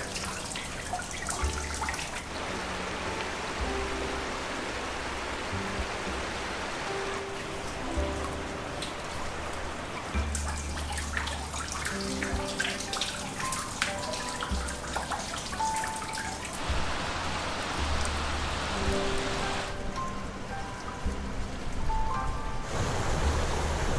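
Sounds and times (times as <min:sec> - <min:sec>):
water dripping into a pool: 0:00.0 - 0:22.4
running water: 0:00.0 - 0:23.9
background music with bass notes: 0:01.4 - 0:23.9.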